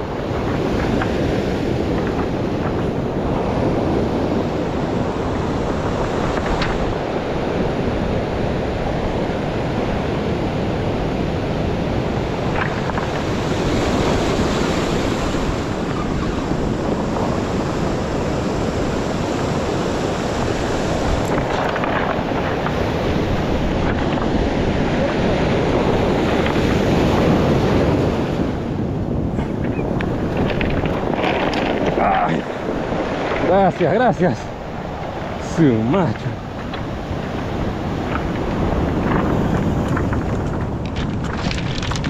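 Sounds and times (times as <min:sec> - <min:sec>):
surf washing on pebble beach: 0:00.0 - 0:42.0.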